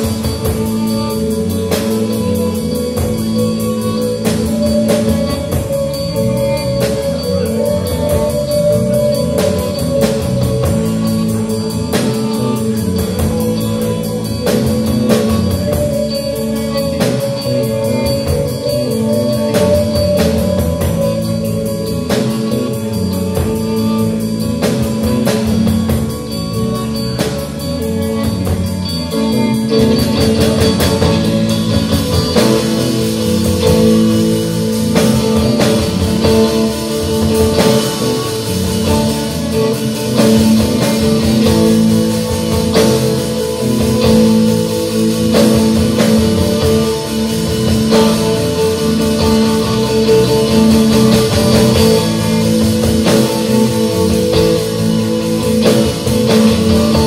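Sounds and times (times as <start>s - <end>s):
bass guitar: 0.0s - 57.0s
drum kit with cymbals: 0.0s - 57.0s
sustained electric guitar notes: 0.0s - 57.0s.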